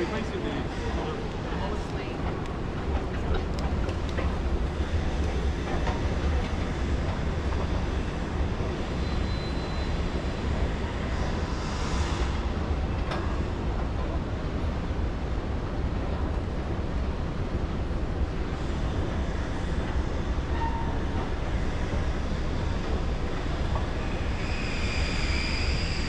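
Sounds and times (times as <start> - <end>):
low rumble of city noise: 0.0 - 26.0.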